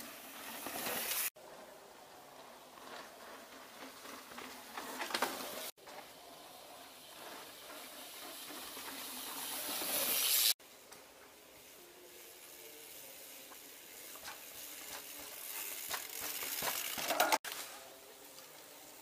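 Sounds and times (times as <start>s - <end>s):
bike tyres rolling on dirt: 0.0s - 19.0s.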